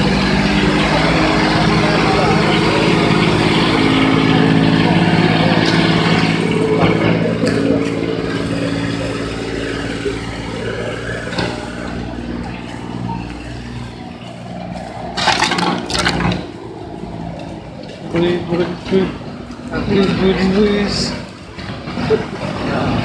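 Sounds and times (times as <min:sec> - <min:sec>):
engine hum: 0:00.0 - 0:23.0
outdoor crowd noise: 0:00.0 - 0:23.0.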